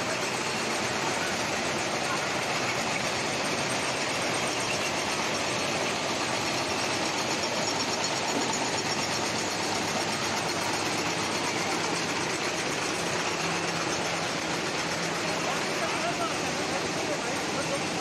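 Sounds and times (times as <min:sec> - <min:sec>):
food processing line machinery: 0:00.0 - 0:18.0.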